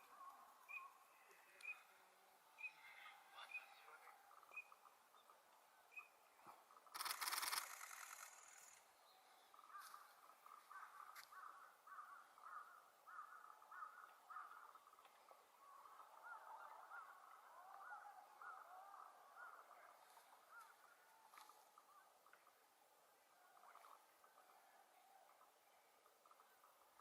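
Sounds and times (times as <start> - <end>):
faint bird calls: 0.0 - 22.6, 23.2 - 27.0.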